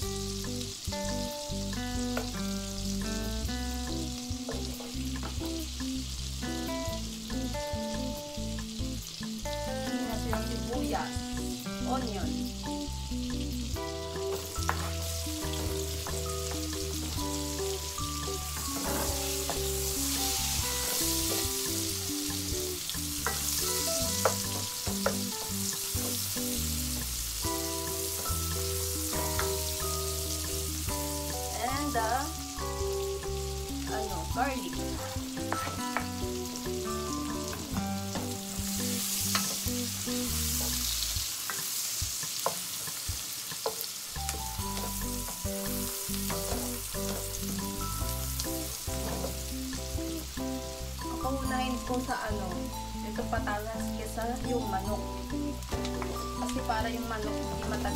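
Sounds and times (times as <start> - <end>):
light background music: 0.0 - 57.9
onion sizzling in a pan: 0.0 - 57.9.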